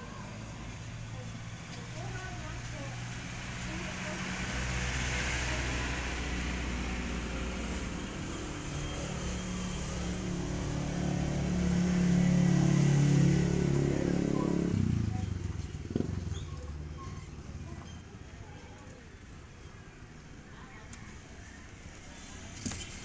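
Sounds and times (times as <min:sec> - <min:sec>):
vehicle engine running: 0:00.0 - 0:19.4.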